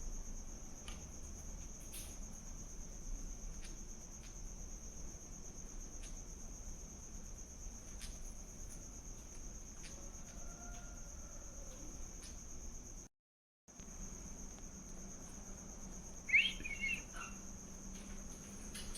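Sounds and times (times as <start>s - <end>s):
high-pitched insect trill: 0.0s - 13.1s, 13.8s - 18.9s.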